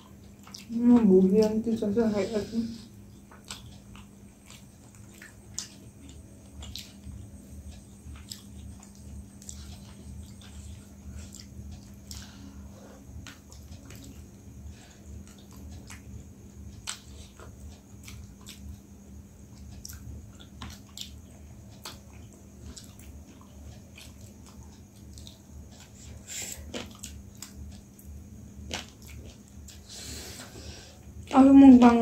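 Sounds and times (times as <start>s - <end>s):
people chewing chicken wings: 0.0s - 31.5s
steady low hum: 0.0s - 32.0s.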